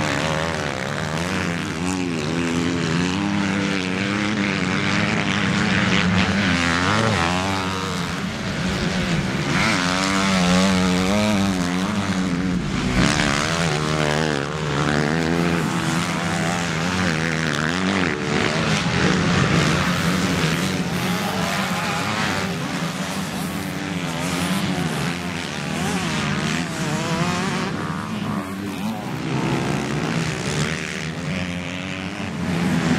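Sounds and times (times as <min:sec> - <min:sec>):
motocross engines revving: 0:00.0 - 0:32.9.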